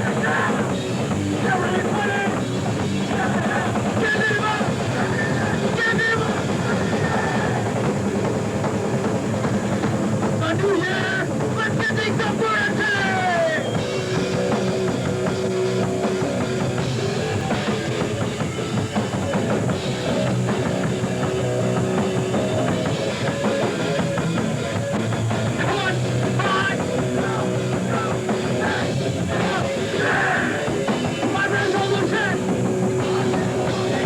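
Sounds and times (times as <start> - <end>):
bass guitar: 0.0 - 34.0
distorted electric guitars: 0.0 - 34.0
drum kit: 0.0 - 34.0.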